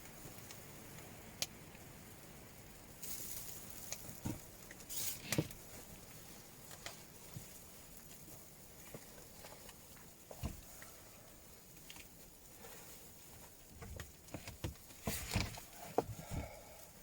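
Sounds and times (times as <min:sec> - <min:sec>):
high hissing rustle: 0:00.0 - 0:17.0.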